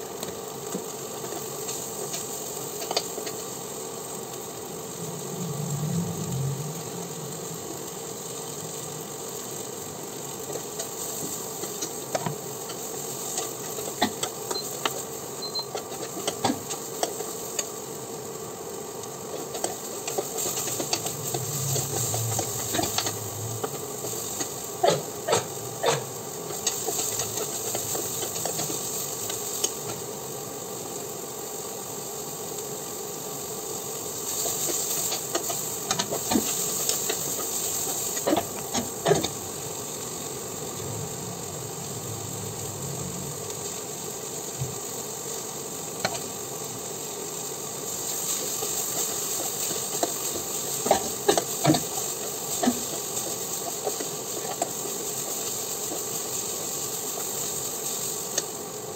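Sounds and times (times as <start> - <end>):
food sizzling in a frying pan: 0.0 - 58.9.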